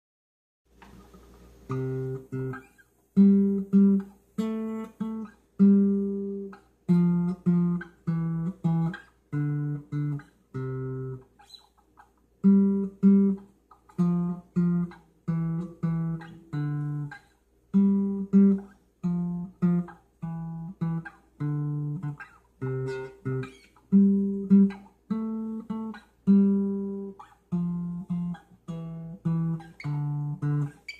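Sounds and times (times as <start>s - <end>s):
guitar chords: 0.8s - 11.4s, 12.4s - 30.9s.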